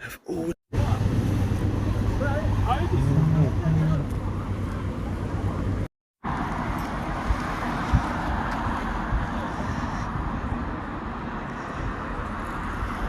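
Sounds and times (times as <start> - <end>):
road traffic noise: 0.7 - 13.0.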